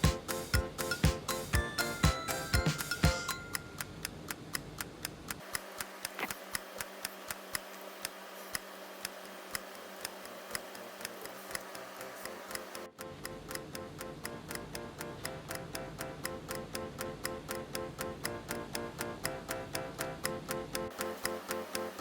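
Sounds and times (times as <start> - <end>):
clock ticking: 0.0 - 22.0.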